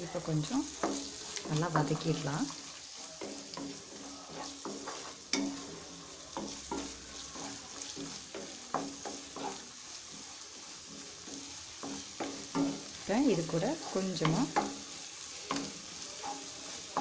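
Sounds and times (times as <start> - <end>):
eggs sizzling in a pan: 0.0 - 17.0
spatula scraping a pan: 0.0 - 17.0.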